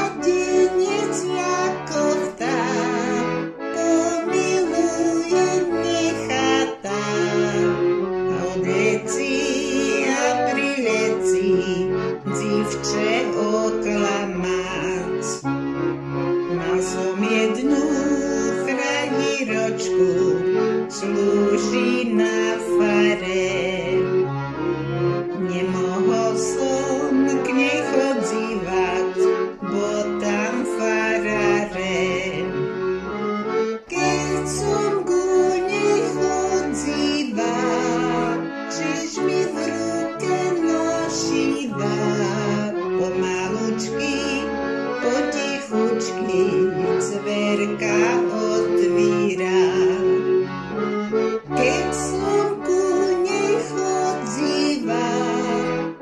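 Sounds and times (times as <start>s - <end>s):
accordion folk melody: 0.0s - 56.0s.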